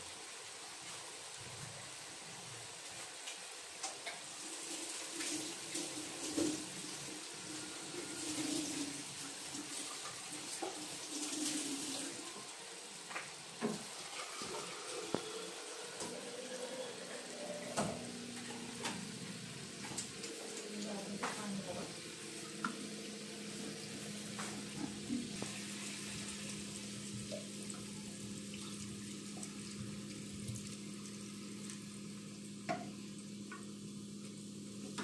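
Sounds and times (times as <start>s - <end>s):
gravy simmering with hiss: 0.0s - 35.0s.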